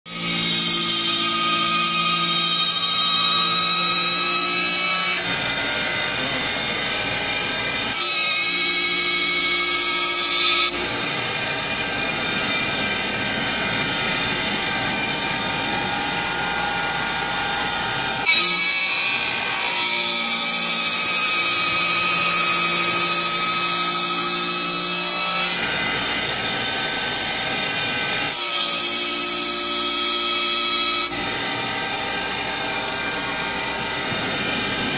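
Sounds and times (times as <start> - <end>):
lathe motors whining: 0.1 - 34.9.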